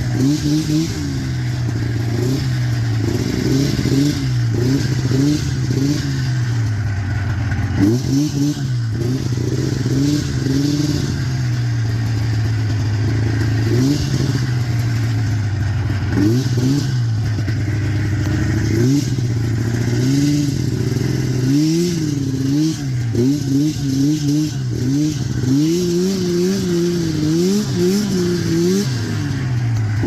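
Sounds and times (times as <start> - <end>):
snowmobile engine revving: 0.0 - 6.7, 7.4 - 30.0.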